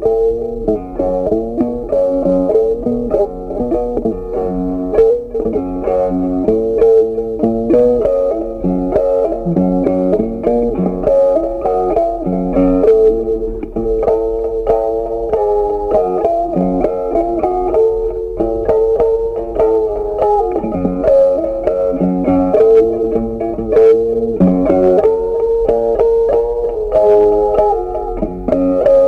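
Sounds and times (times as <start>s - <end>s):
instrumental background music: 0.0s - 29.0s.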